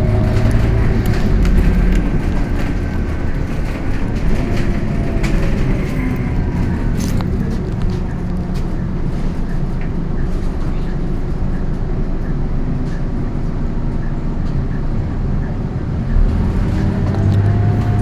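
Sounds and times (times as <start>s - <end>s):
bus engine rumble: 0.0s - 18.0s
interior rattles and clicks: 0.0s - 18.0s.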